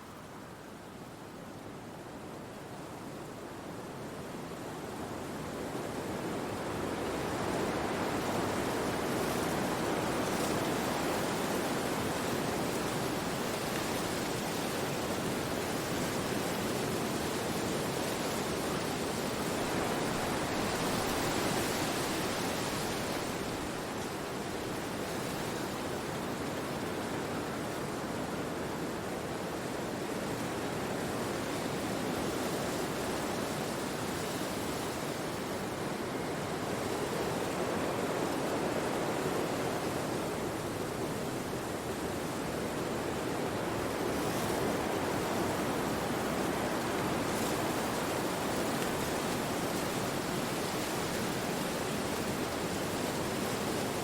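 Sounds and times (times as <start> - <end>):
wind rushing through trees: 0.0 - 54.0.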